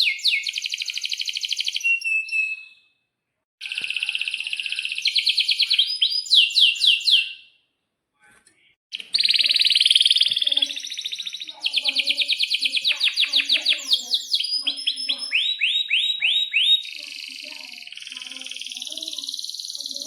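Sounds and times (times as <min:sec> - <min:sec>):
canary singing: 0:00.0 - 0:03.0, 0:03.6 - 0:07.6, 0:08.9 - 0:20.0.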